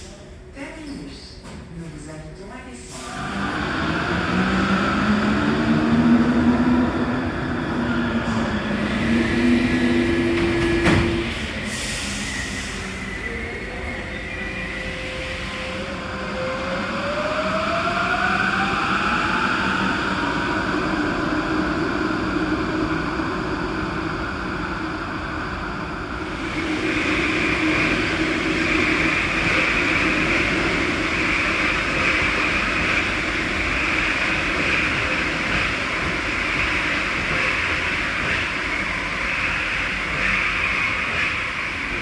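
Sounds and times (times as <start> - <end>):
train running noise: 0.8 - 42.0.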